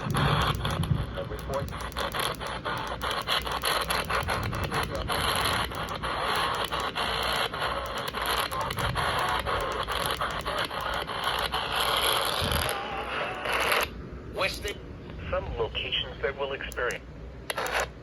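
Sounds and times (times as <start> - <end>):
crackling clicks: 0.0 - 14.0, 16.5 - 18.0
radio static hiss: 0.0 - 18.0.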